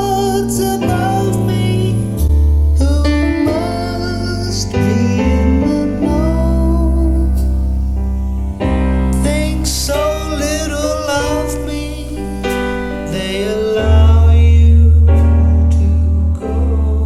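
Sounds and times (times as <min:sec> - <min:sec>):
deep sustained bass notes: 0:00.0 - 0:17.0
slow vocal ballad on loudspeakers: 0:00.0 - 0:17.0.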